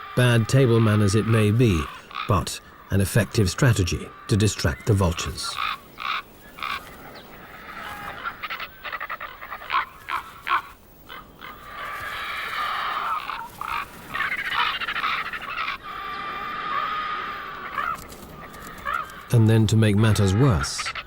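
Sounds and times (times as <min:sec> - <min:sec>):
ravens and vultures calling: 0:00.0 - 0:21.0.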